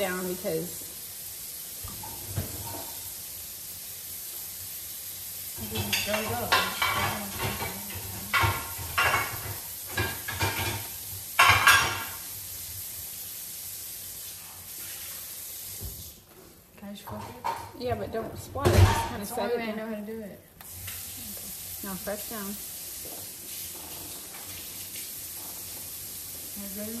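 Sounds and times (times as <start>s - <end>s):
burger patties sizzling in grease: 0.0s - 16.6s, 20.6s - 27.0s.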